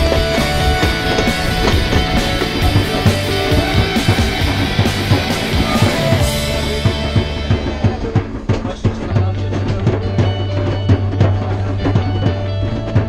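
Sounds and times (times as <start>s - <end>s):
hand drums rhythm: 0.0s - 13.0s
other percussion: 0.0s - 13.0s.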